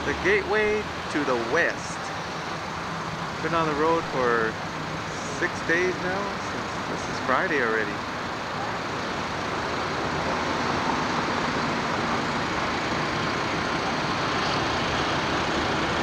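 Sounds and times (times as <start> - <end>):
engine humming: 0.0 - 16.0
road traffic noise: 0.0 - 16.0.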